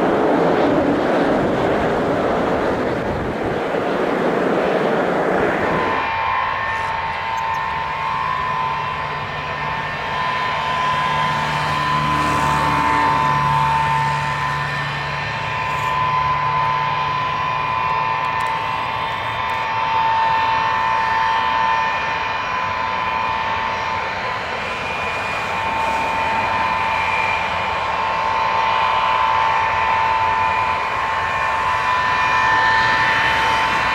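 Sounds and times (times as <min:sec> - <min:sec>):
broad rushing noise: 0:00.0 - 0:33.9
jet engines whining: 0:00.0 - 0:33.9.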